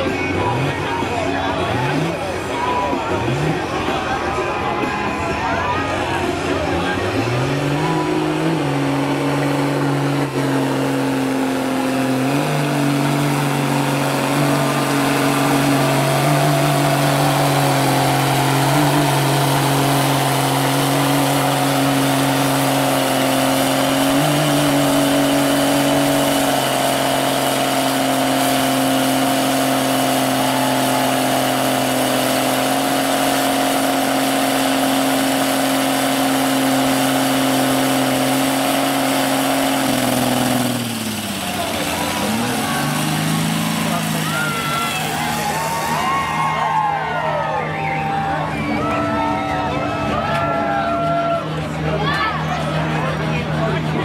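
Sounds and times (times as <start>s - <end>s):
truck engine revving in mud: 0.0s - 54.0s.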